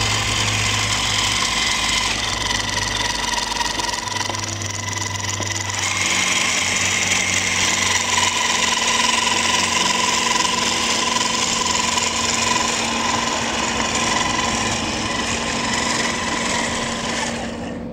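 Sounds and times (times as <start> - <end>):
hydraulic drive whining: 0.0 - 17.9.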